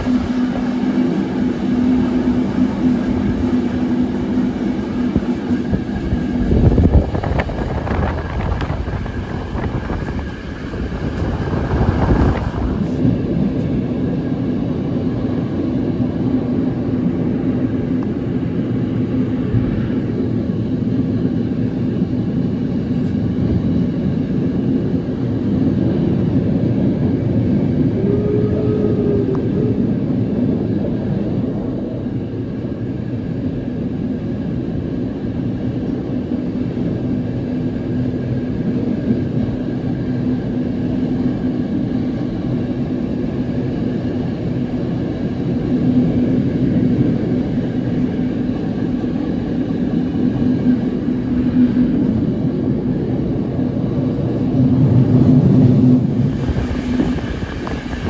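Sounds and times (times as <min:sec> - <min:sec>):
train coaches rumbling on rails: 0:00.0 - 0:58.0.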